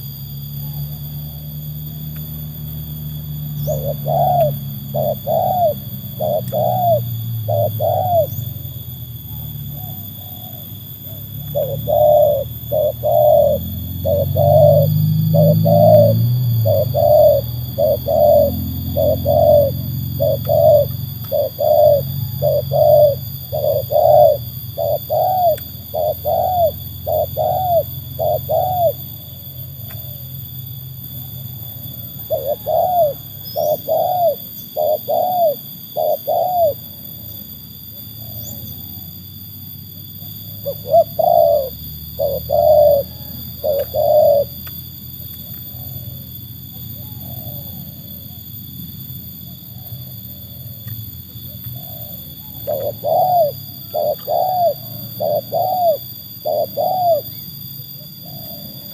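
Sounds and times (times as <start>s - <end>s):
dove cooing: 0.0s - 30.6s, 31.2s - 37.2s, 40.1s - 48.8s, 49.5s - 58.9s.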